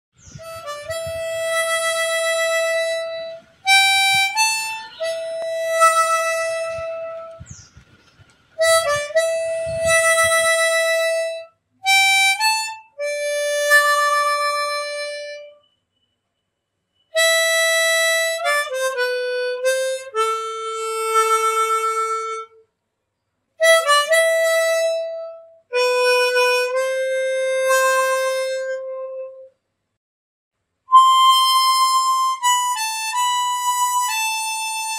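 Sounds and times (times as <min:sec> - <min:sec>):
slow wind instrument melody: 0:00.2 - 0:07.6, 0:08.6 - 0:15.6, 0:17.1 - 0:22.6, 0:23.6 - 0:29.6, 0:30.9 - 0:34.9.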